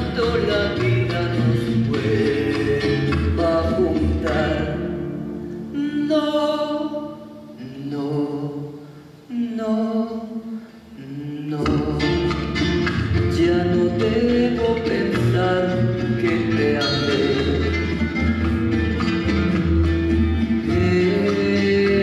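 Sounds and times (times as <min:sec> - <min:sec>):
music accompaniment: 0:00.0 - 0:07.6, 0:11.5 - 0:22.0
man singing a slow ballad: 0:00.0 - 0:18.6, 0:20.5 - 0:22.0.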